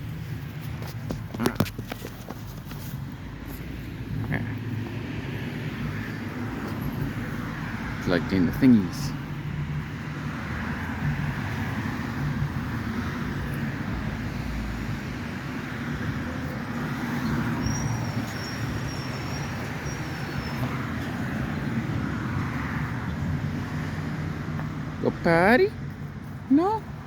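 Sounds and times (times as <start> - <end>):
cars passing: 0.0 - 27.0.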